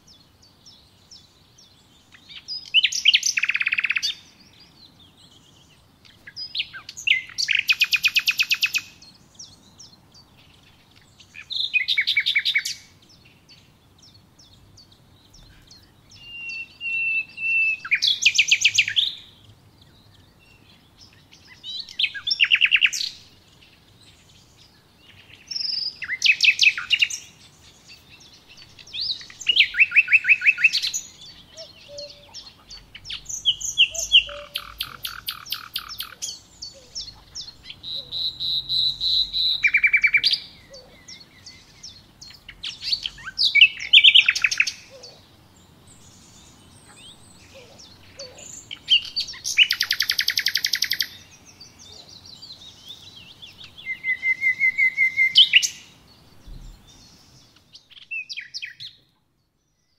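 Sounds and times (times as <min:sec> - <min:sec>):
songbird trilling and chirping: 0:00.0 - 0:59.9.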